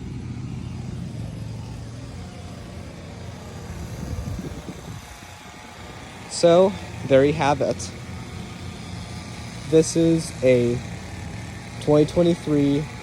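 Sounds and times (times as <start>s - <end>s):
low rumbling: 0.0s - 11.8s
heat pump humming: 0.0s - 13.0s.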